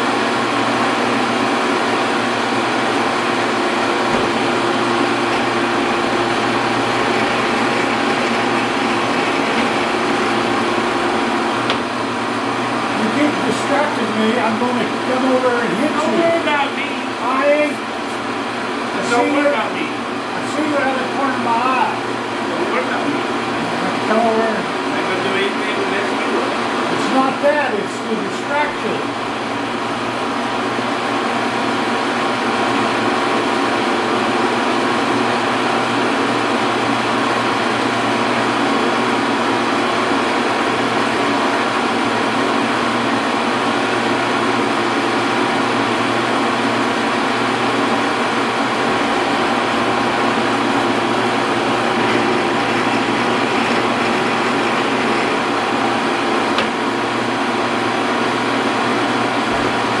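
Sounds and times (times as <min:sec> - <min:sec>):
metal lathe humming: 0:00.0 - 1:00.0.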